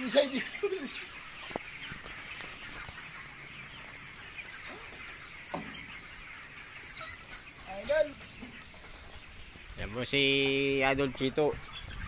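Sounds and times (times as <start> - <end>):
chickens clucking: 0.0 - 12.0
loud chicken calls: 0.0 - 12.0.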